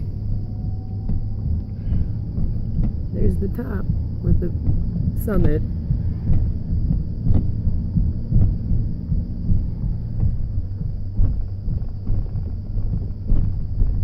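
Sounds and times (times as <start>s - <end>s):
road and engine rumble: 0.0s - 14.0s
wind buffeting microphone: 0.0s - 14.0s.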